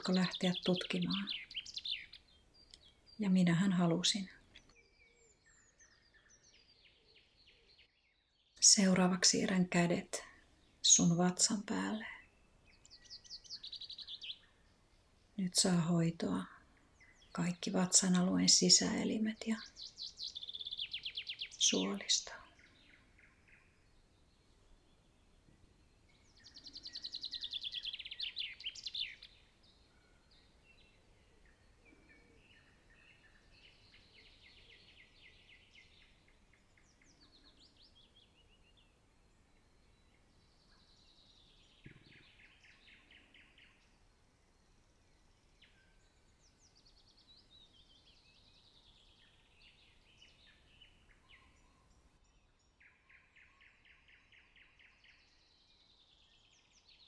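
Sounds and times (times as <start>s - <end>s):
songbirds singing trilled phrases: 0.0s - 57.0s.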